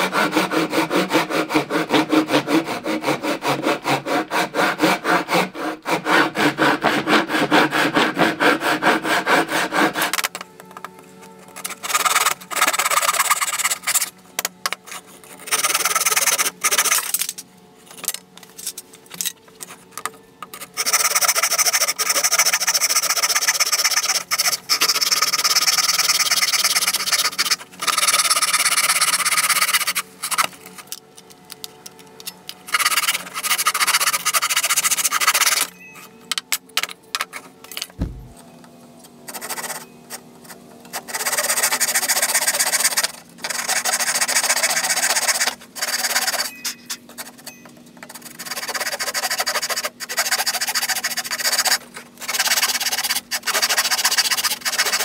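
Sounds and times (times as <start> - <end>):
hand saw cutting plywood: 0.0 - 31.0, 32.2 - 35.7, 38.0 - 38.4, 40.4 - 46.5, 48.1 - 55.0.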